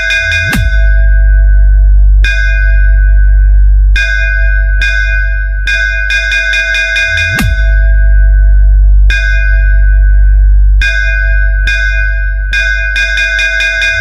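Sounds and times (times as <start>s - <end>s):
deep sub-bass: 0.0s - 14.0s.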